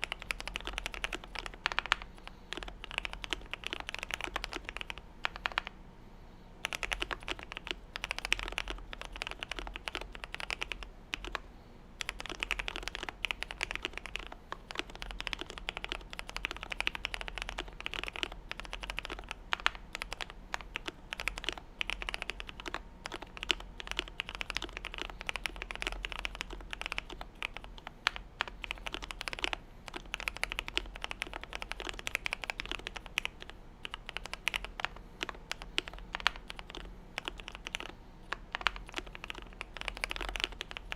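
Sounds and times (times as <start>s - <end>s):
fast mechanical keyboard typing: 0.0s - 5.7s, 6.6s - 11.4s, 12.0s - 40.9s.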